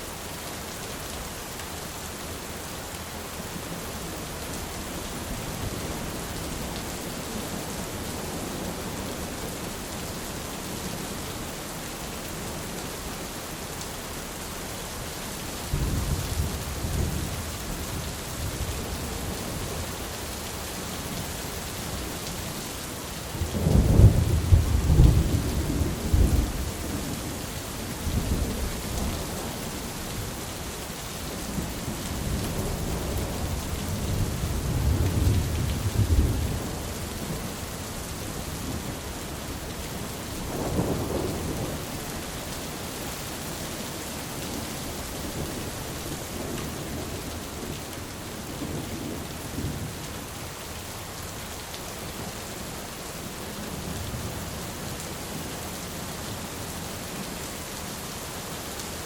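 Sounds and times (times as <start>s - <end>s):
heavy rain hiss: 0.0s - 59.0s.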